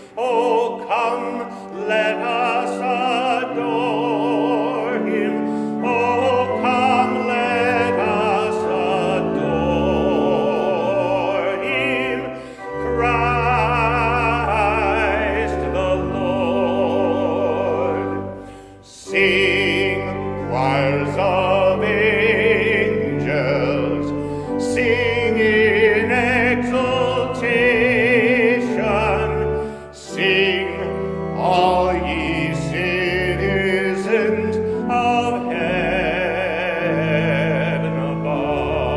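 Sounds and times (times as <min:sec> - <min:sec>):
classical vocal singing with vibrato: 0:00.0 - 0:38.9
instrumental accompaniment: 0:00.0 - 0:38.9.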